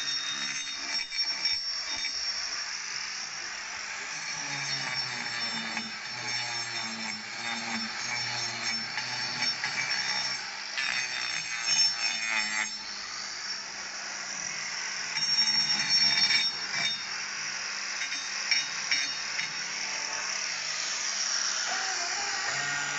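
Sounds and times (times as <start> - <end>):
grinder grinding hoof: 0.0 - 2.6, 4.0 - 13.1, 14.5 - 17.2, 18.0 - 22.9
angle grinder whine: 0.0 - 22.9.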